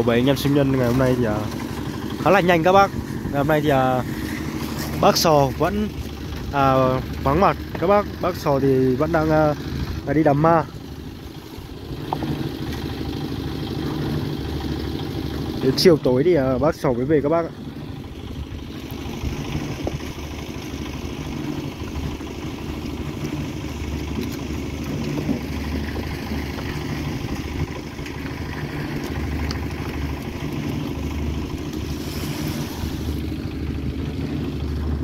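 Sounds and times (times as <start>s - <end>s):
small engine humming: 0.0s - 35.0s.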